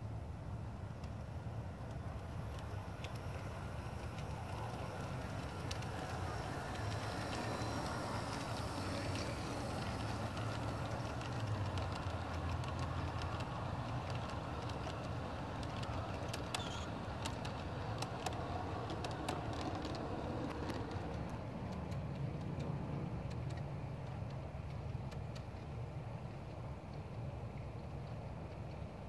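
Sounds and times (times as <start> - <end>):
model train wheels rumbling: 0.0 - 29.0
sharp clicks of track: 1.8 - 29.0.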